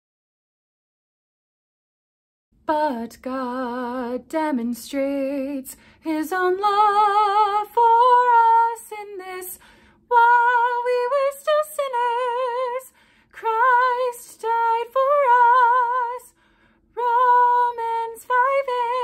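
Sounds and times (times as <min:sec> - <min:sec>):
woman singing unaccompanied: 0:02.6 - 0:19.0.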